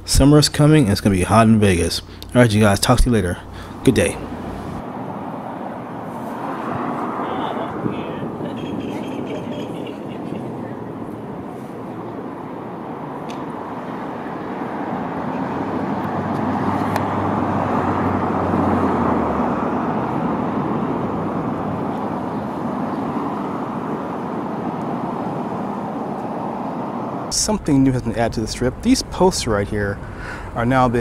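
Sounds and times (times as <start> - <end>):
road traffic: 0.0 - 31.0
vehicle passing: 0.6 - 31.0
low engine hum: 0.8 - 31.0.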